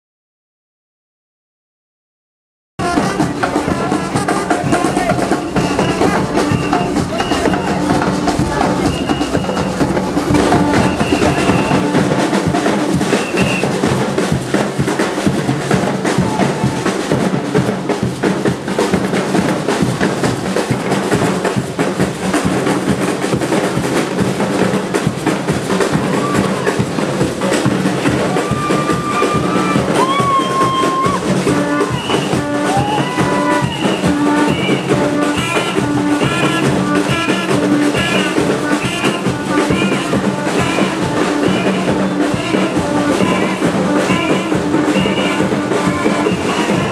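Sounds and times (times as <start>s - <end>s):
carnival band music: 2.8s - 46.9s
drums and percussion beat: 2.8s - 46.9s.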